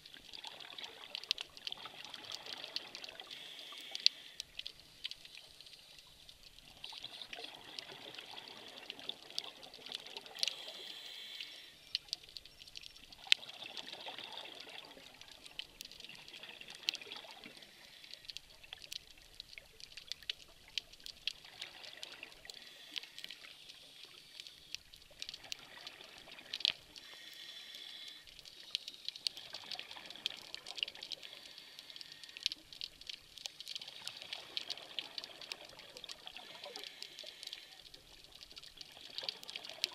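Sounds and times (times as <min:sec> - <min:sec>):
underwater crackle of sharp clicks: 0:00.0 - 0:39.9.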